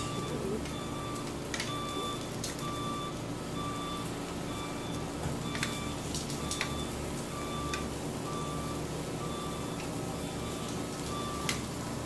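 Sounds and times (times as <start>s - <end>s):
reversing alarm beeping: 0.0s - 11.7s.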